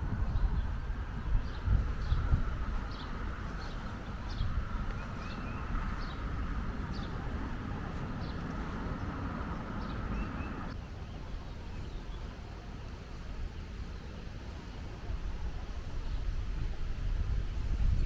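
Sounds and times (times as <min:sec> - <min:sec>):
steady high drone: 0:00.0 - 0:15.1
small birds chirping: 0:00.0 - 0:16.6
low outdoor rumble: 0:00.0 - 0:18.0.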